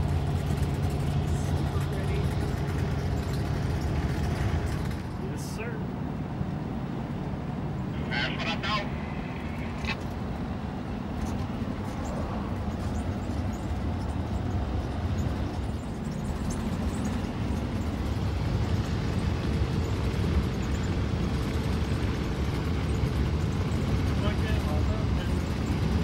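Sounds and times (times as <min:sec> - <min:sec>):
vehicle driving rumble: 0:00.0 - 0:26.0.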